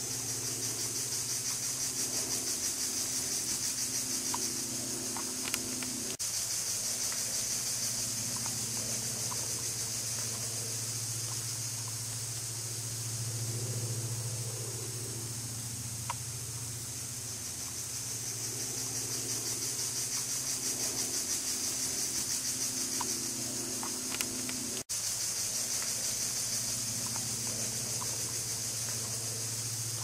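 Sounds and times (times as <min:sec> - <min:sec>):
insect-like drone and hiss: 0:00.0 - 0:30.0
low steady hum: 0:00.0 - 0:30.0.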